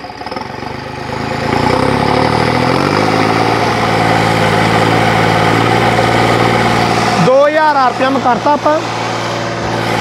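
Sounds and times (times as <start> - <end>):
tractor diesel engine revving: 0.0 - 10.0.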